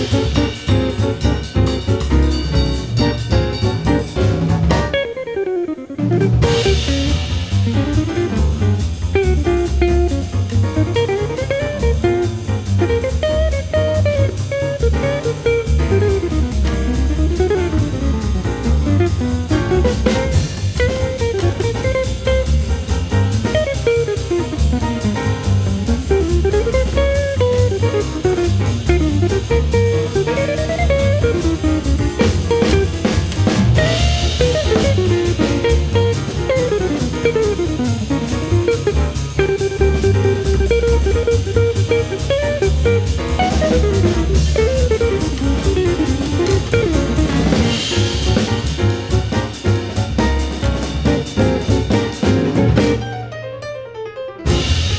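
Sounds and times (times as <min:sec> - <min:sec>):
drum-kit beat: 0:00.0 - 0:05.4, 0:06.0 - 0:53.3, 0:54.5 - 0:54.9
plucked guitar melody: 0:00.0 - 0:08.4, 0:09.0 - 0:47.8.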